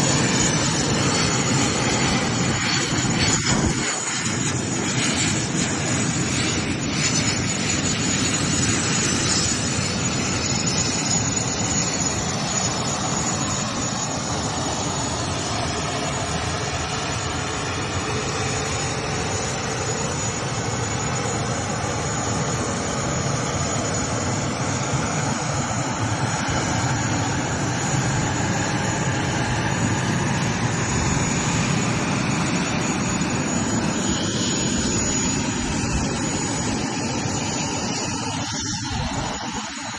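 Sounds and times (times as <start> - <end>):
high engine whine: 0.0 - 39.9
jet engines rushing: 0.0 - 39.9.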